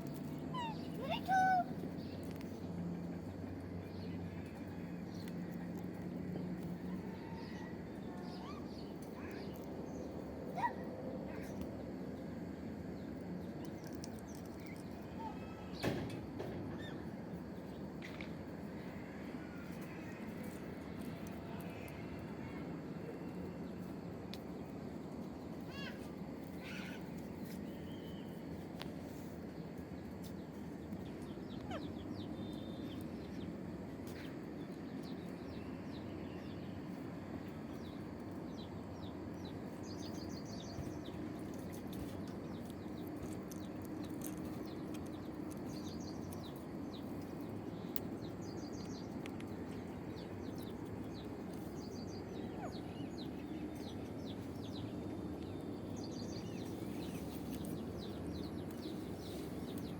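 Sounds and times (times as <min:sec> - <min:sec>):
low outdoor background noise: 0:00.0 - 0:59.9.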